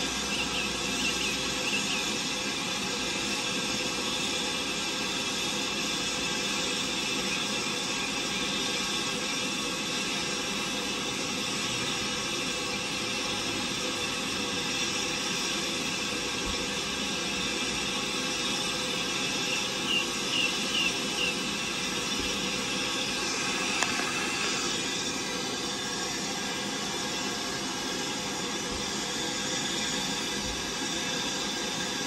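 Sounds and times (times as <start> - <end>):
steam hissing: 0.0 - 32.0.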